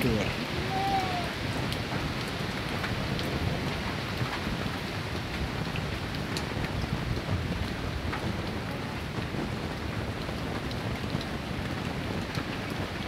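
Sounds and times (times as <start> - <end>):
light rain on wet ground: 0.0 - 13.0.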